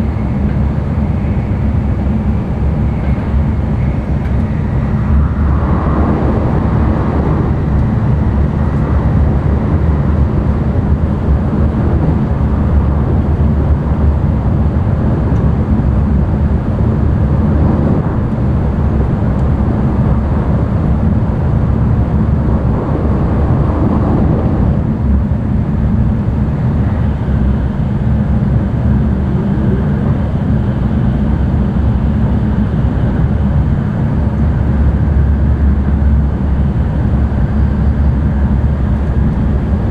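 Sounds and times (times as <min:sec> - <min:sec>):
train cabin rumble and hiss: 0:00.0 - 0:39.9.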